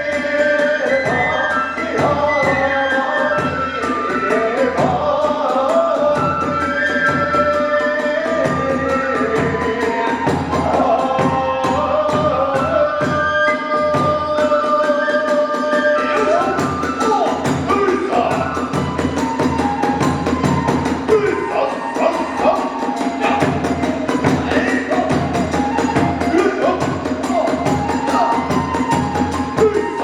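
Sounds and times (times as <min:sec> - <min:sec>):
bamboo flute melody: 0:00.0 - 0:30.0
fast drum beats: 0:00.0 - 0:30.0.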